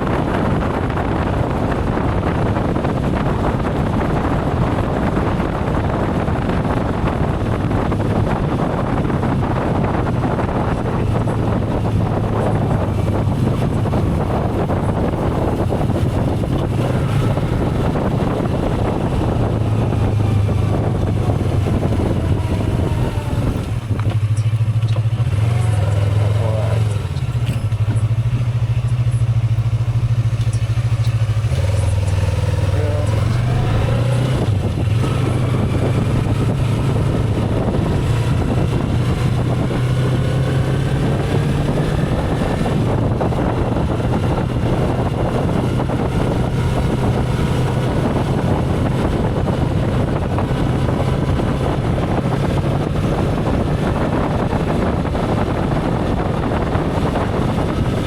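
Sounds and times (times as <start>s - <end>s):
motorcycle engine running: 0.0s - 58.0s
wind rush: 0.0s - 58.0s.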